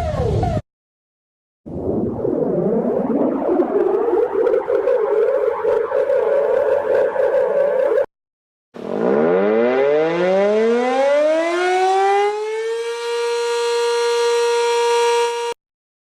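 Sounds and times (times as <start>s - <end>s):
civil defense siren winding up: 1.8s - 8.1s, 8.8s - 15.6s.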